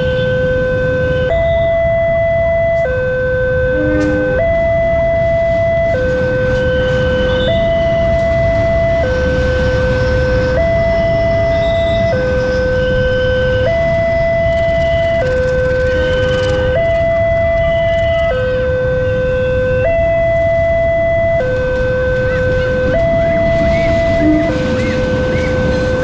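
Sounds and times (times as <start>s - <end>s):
two-tone warning siren: 0.0s - 26.0s.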